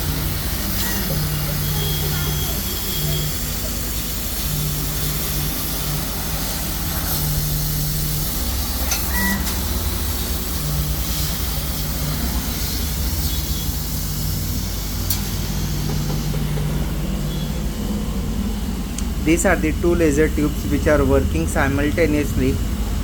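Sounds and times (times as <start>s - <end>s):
compressor and blower hum: 0.0s - 23.0s.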